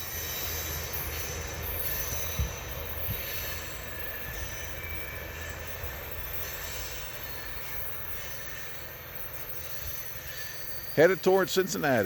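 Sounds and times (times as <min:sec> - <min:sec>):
faint wheel squeal: 0:00.0 - 0:11.1
train rumbling on rails: 0:00.0 - 0:12.0.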